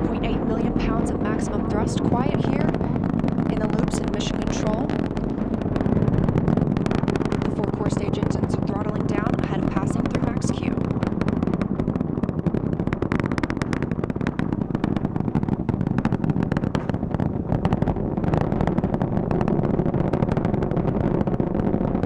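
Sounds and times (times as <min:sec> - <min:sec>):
rocket engines roaring: 0:00.0 - 0:22.0.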